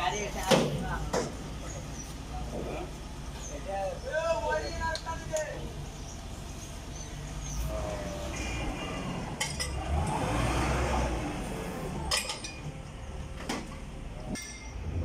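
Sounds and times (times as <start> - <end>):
crane engine rumbling: 0.0 - 15.0.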